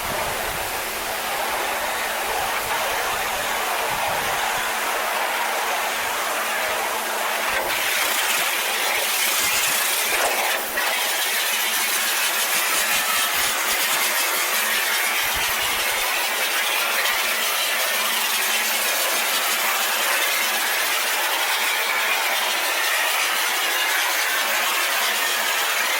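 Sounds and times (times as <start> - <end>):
pressure washer spraying metal: 0.0 - 25.9.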